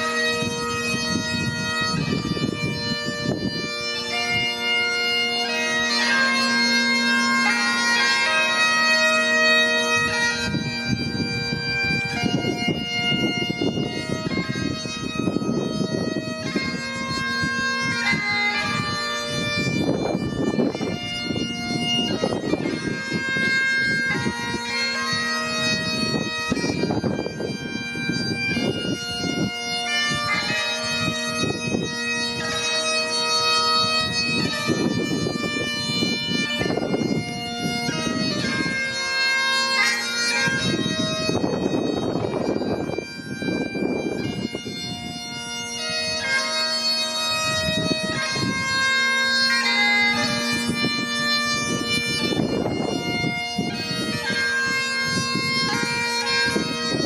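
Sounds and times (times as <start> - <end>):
bagpipes playing: 0.0 - 57.0.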